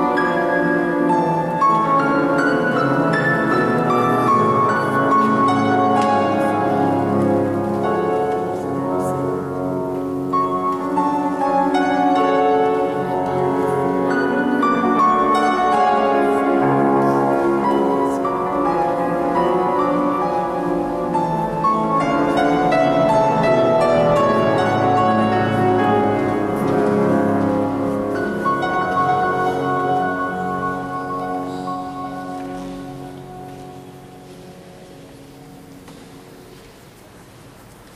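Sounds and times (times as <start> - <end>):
solo grand piano: 0.0 - 37.9.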